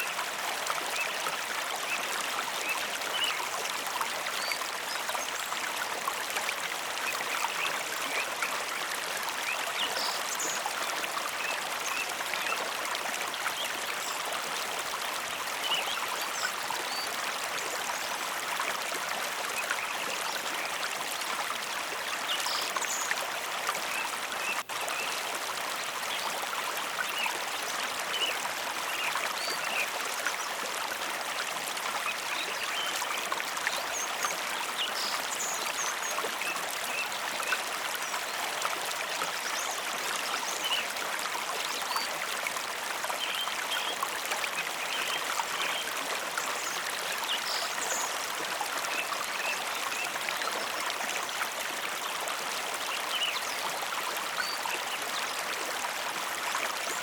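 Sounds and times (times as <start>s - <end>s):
water splashes and trickles: 0.0s - 57.0s.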